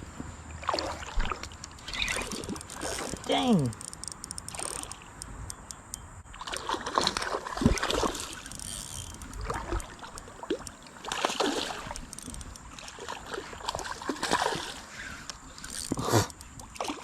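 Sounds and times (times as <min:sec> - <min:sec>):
water splashing: 0:00.6 - 0:05.5, 0:06.4 - 0:17.0.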